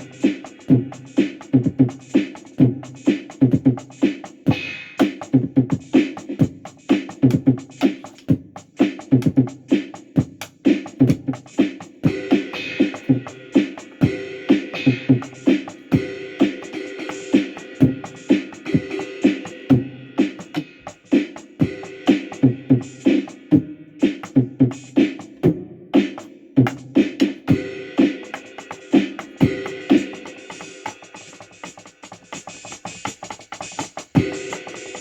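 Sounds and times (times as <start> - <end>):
music with drum beat and bass: 0.0 - 35.0.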